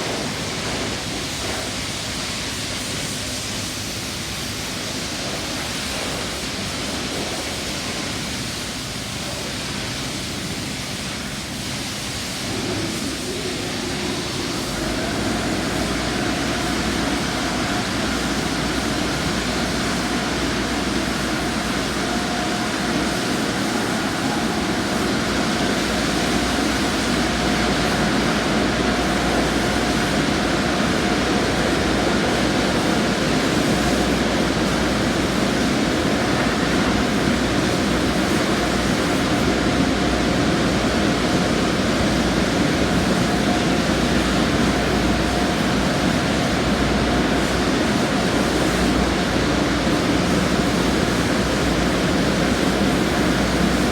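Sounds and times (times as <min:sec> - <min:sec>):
spraying water: 0:00.0 - 0:53.9.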